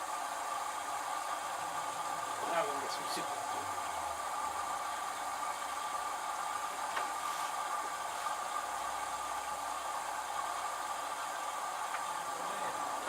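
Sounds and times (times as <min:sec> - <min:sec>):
washing machine hissing: 0:00.0 - 0:13.0.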